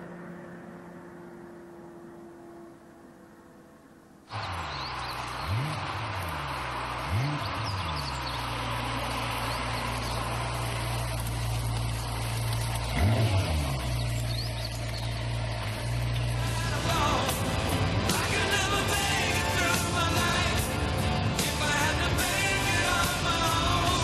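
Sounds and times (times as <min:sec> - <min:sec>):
car engine revving: 0:01.8 - 0:24.0.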